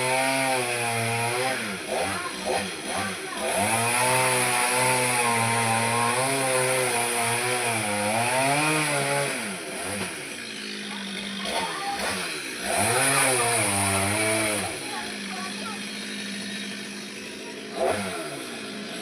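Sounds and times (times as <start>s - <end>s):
chainsaw engine running: 0.0s - 19.0s.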